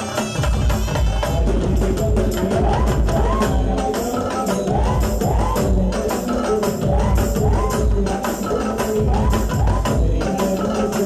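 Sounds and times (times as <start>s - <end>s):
fast hand-drum strokes: 0.0s - 11.0s
live band playing folk song: 0.0s - 11.0s.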